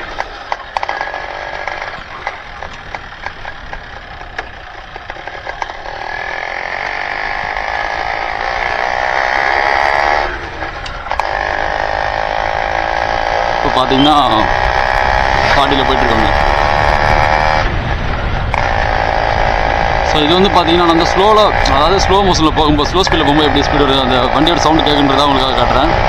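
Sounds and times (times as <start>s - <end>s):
motorcycle engine exhaust: 0.0s - 26.0s.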